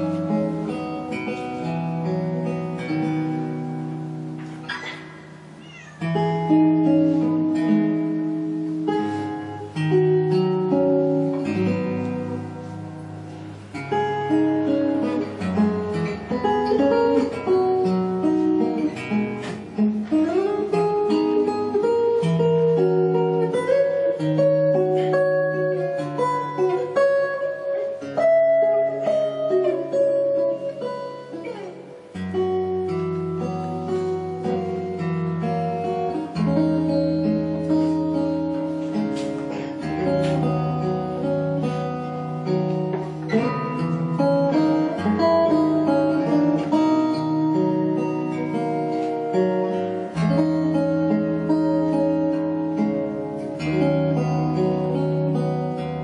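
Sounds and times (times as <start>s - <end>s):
fingerstyle acoustic guitar: 0.0s - 56.0s.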